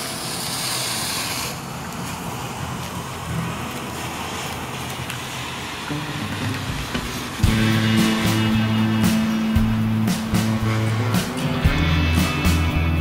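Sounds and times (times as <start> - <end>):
smoke firework hissing: 0.0 - 12.6.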